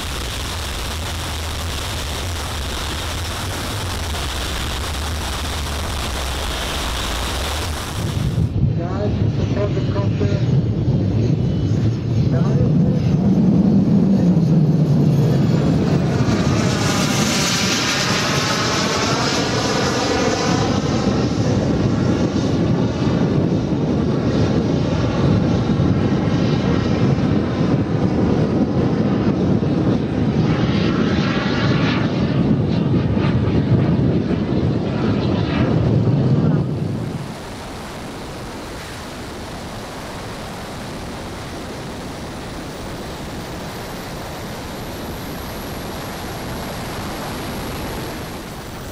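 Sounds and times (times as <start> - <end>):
model jet turbines roaring: 0.0 - 48.9
onboard rush of air and turbine: 0.0 - 48.9.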